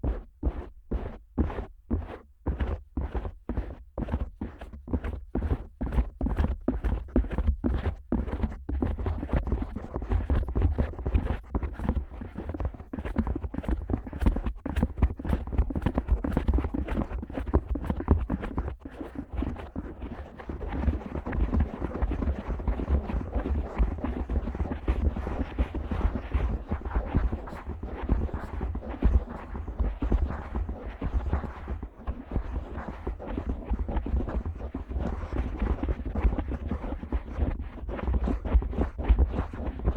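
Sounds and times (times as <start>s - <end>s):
fingers scratching microphone: 0.0s - 39.9s.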